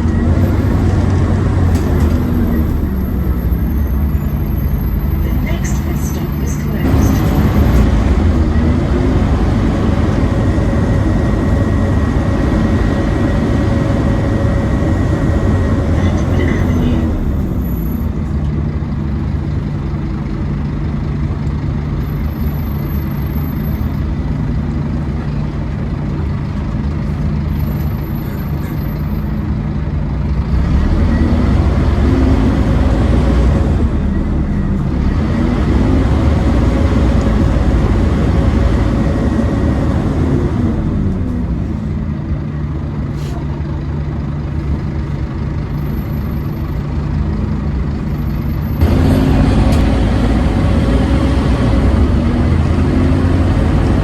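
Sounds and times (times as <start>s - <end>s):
bus engine whining: 0.0s - 54.0s.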